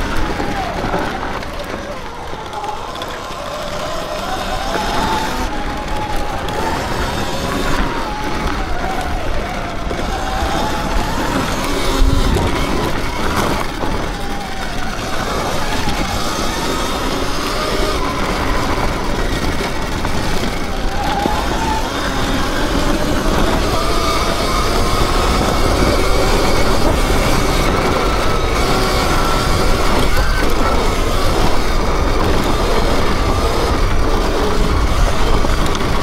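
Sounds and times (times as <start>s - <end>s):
electric motor whine: 0.0s - 36.0s
wind rush: 0.0s - 36.0s.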